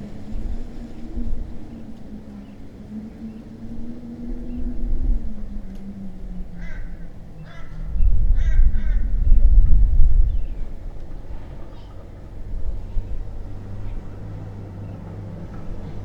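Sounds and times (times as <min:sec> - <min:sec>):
bird calls: 0:00.0 - 0:16.0
low rumble: 0:00.0 - 0:16.0
steady low hum: 0:00.0 - 0:16.0.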